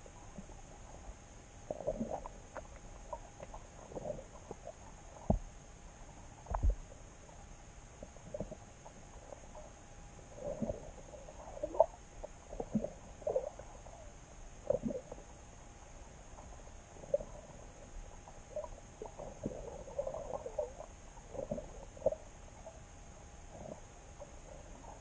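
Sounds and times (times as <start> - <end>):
muffled underwater gurgles: 0.0 - 25.0.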